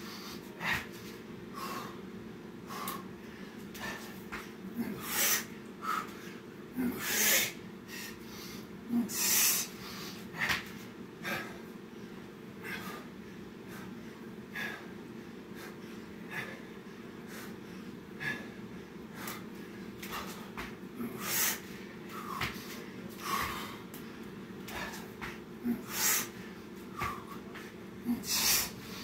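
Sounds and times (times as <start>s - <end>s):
man breathing hard: 0.0s - 29.0s.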